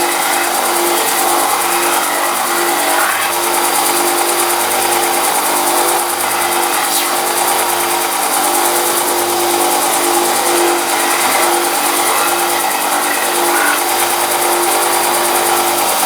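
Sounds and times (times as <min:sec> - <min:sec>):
power tool motor grinding hum: 0:00.0 - 0:16.0.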